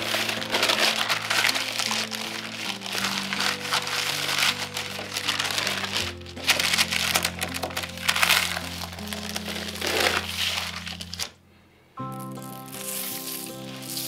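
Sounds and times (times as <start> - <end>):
close-up crackling and crunching: 0.0 - 11.4
background music with held notes: 0.0 - 14.0.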